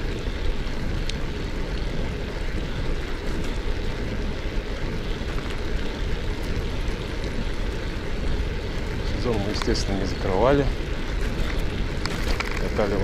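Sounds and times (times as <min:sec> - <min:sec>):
bicycle tyres rolling on dirt: 0:00.0 - 0:13.0
wind buffeting microphone: 0:00.0 - 0:13.0.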